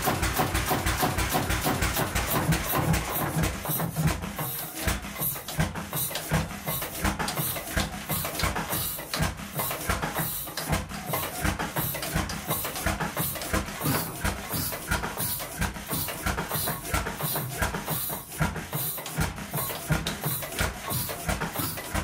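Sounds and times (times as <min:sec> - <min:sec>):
engine knocking beat: 0:00.0 - 0:22.0.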